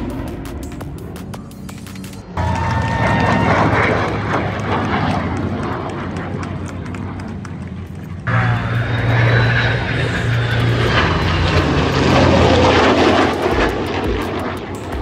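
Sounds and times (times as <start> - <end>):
aircraft engine passing: 0.0 - 15.0.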